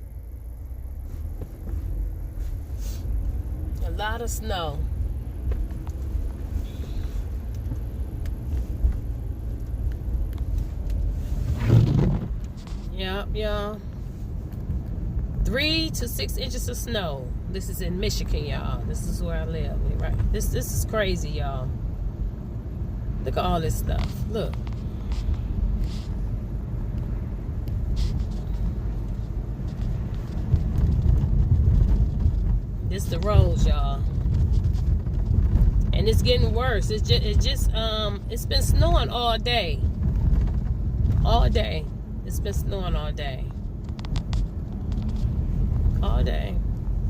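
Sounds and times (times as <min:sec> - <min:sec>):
car driving low rumble: 0:00.0 - 0:47.0.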